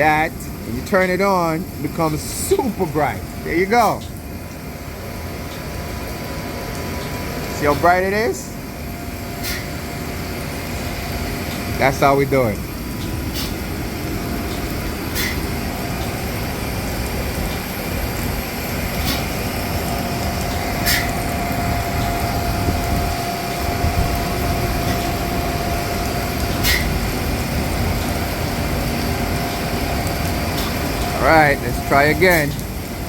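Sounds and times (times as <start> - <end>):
low machinery rumble: 0.0 - 33.0.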